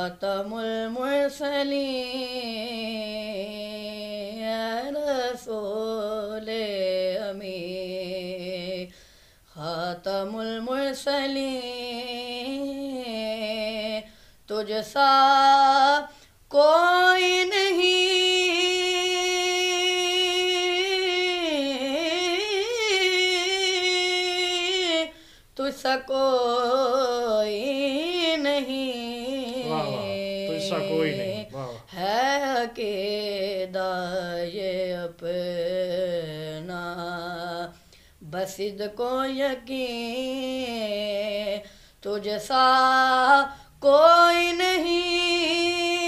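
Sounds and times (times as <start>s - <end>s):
boy singing unaccompanied: 0.0s - 8.9s, 9.5s - 46.0s.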